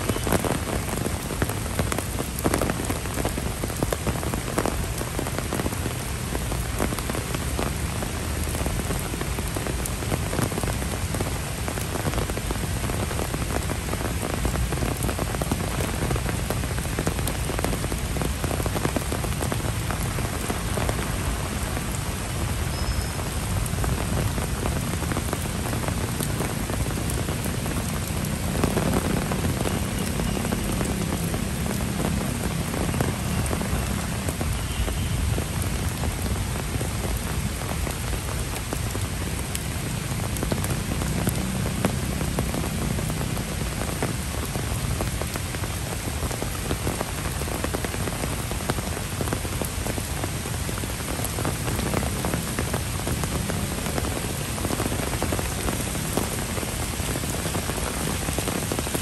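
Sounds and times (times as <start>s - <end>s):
heavy rain on trees and path: 0.0s - 59.0s.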